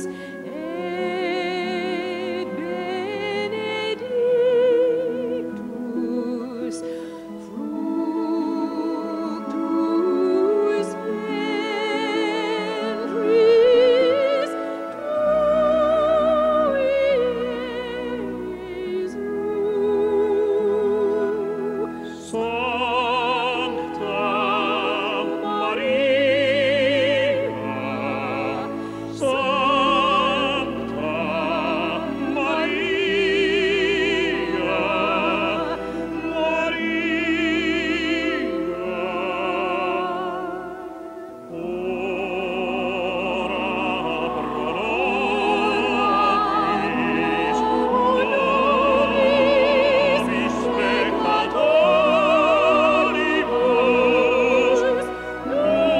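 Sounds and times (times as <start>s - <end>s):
operatic singing with vibrato: 0.0s - 55.9s
orchestral accompaniment: 0.0s - 55.9s.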